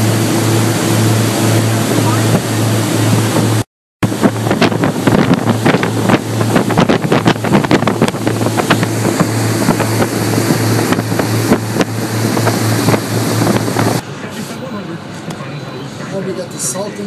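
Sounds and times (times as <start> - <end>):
water slapping hull: 0.0 - 14.0
wind buffeting microphone: 0.0 - 14.0
water rushing: 0.0 - 14.2
motorboat engine hum: 0.0 - 14.4.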